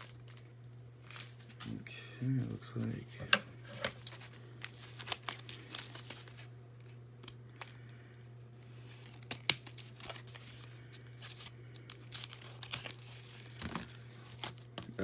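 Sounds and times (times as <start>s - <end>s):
paper and plastic crinkling: 0.0s - 15.0s.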